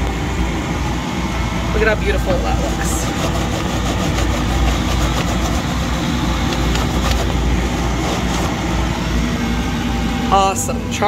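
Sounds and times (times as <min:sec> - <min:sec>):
deep mechanical hum: 0:00.0 - 0:11.0.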